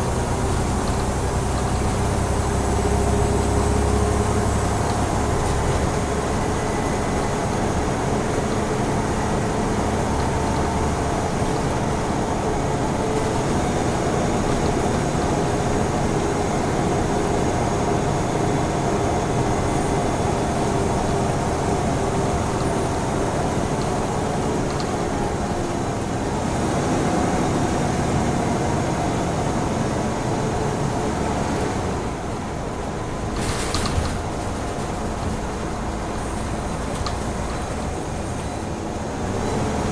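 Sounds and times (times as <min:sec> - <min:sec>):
diesel bus engine: 0:00.0 - 0:39.9
road noise: 0:00.0 - 0:39.9.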